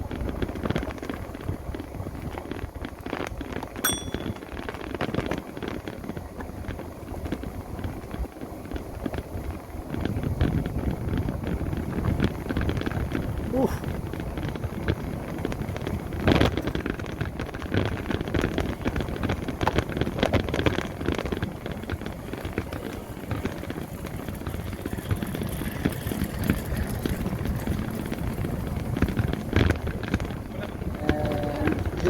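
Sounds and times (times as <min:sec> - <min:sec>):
motorbike road noise: 0:00.0 - 0:32.0
wind buffeting microphone: 0:05.1 - 0:32.0.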